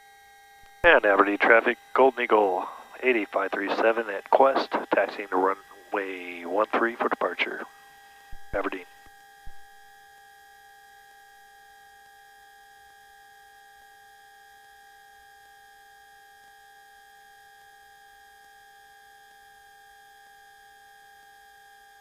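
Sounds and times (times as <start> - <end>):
electrical hum and whine: 0.0 - 22.0.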